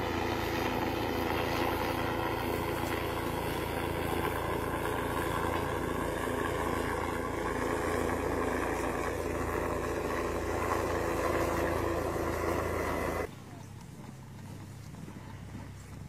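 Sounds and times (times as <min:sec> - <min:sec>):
low drone: 0:00.0 - 0:13.3.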